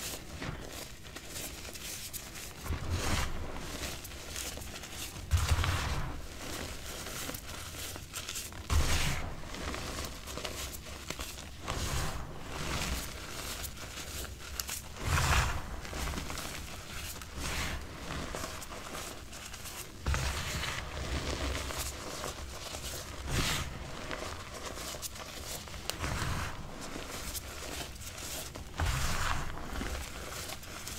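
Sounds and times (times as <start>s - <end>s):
chalk crunching and crumbling: 0.0s - 30.9s
powder sifting between fingers: 0.0s - 30.9s.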